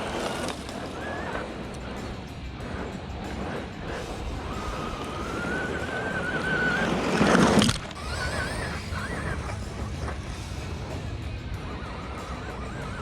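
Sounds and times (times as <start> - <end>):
electric motor whine: 0.0 - 13.0
tires spraying gravel: 0.0 - 13.0.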